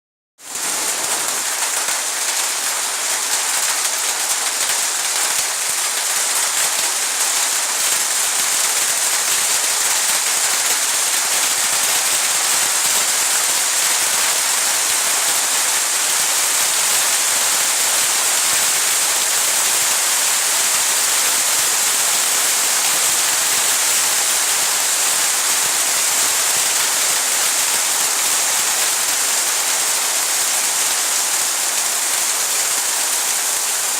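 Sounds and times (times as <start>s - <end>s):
heavy rain pattering: 0.4s - 33.9s.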